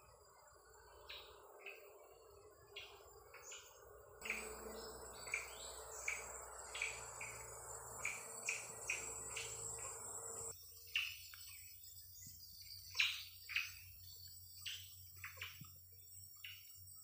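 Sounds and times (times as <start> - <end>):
insects buzzing in chorus: 0.0 - 17.0.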